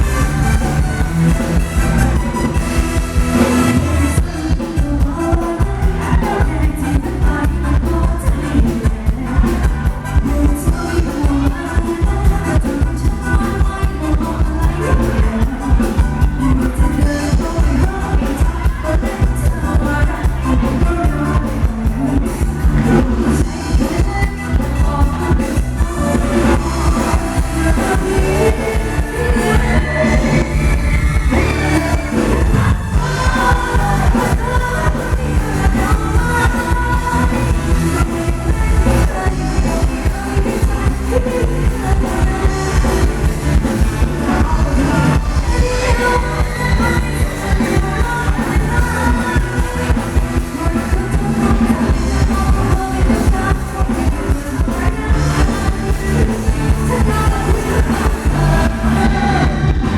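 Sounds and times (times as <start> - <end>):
live band dance music: 0.0 - 59.9
person singing: 0.0 - 59.9.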